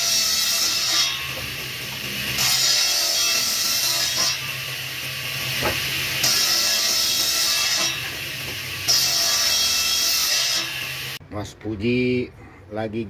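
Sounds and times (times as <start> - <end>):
saw cutting wood: 0.0 - 11.2
table saw blade humming: 0.0 - 11.2.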